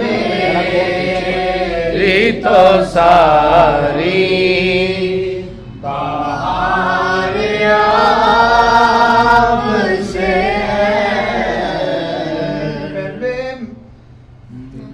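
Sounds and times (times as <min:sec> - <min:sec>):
man singing unaccompanied: 0:00.0 - 0:13.9.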